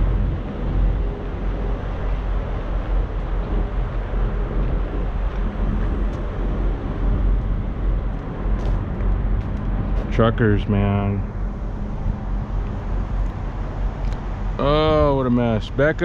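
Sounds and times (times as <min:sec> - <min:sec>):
diesel truck engine humming: 0:00.0 - 0:16.0
road and wind noise: 0:00.0 - 0:16.0.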